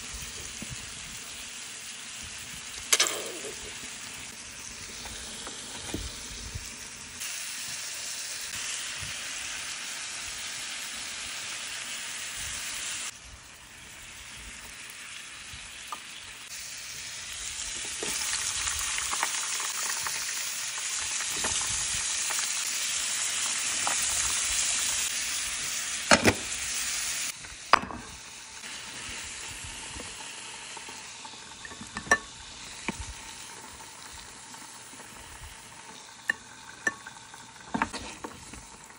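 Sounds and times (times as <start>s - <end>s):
fries frying in hot oil: 0.0s - 38.9s
meat sizzling on a griddle: 0.0s - 38.9s.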